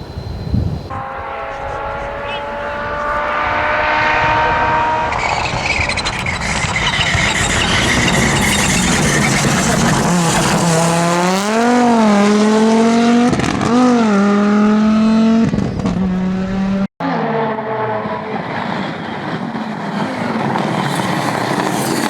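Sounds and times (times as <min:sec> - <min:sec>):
road noise: 0:00.0 - 0:22.0
rally car engine revving: 0:00.9 - 0:22.0.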